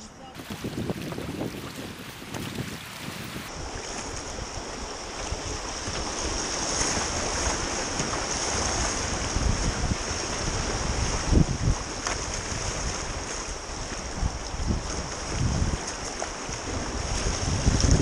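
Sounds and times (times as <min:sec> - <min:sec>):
wind buffeting microphone: 0:00.3 - 0:18.0
water rushing over rocks: 0:00.4 - 0:18.0.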